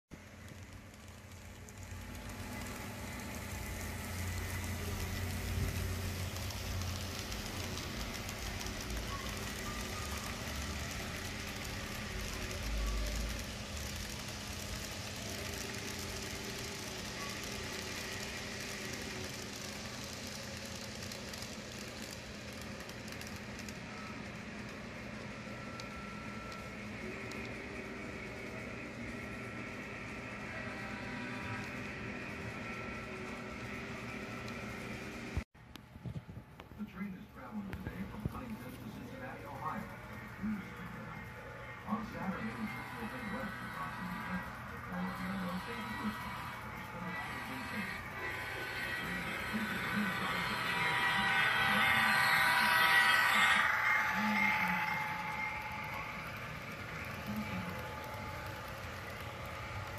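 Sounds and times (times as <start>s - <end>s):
model train running: 0.2s - 35.4s, 36.6s - 59.9s.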